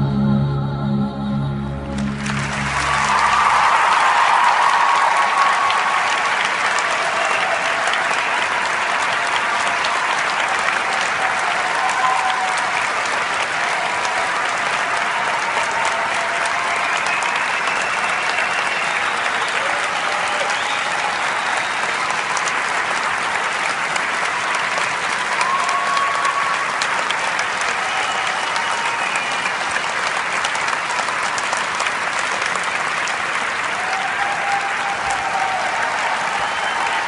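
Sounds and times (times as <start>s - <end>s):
audience applauding: 1.9s - 37.0s.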